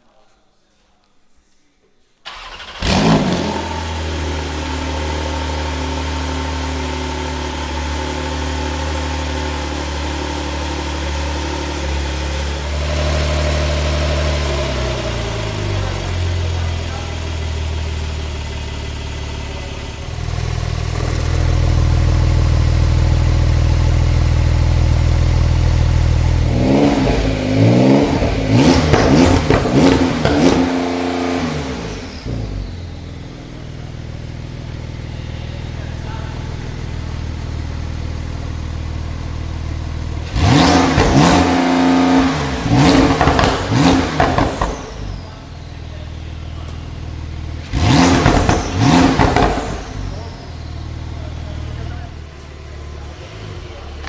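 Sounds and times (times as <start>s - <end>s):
car engine running steadily: 2.8s - 54.0s.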